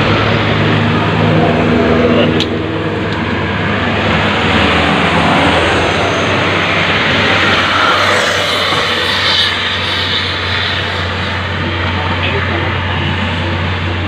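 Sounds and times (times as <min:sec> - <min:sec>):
road traffic noise: 0:00.0 - 0:14.0
vehicle engine humming: 0:00.0 - 0:14.0.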